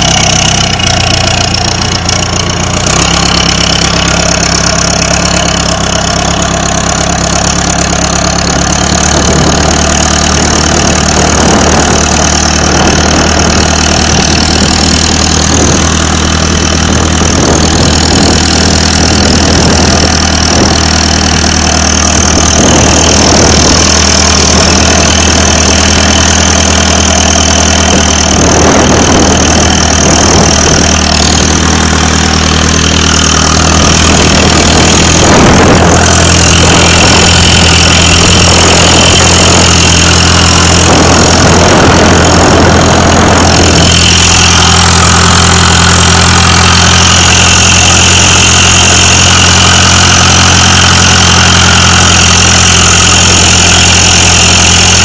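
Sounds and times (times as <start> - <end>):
engine idling with whine: 0.0 - 55.0.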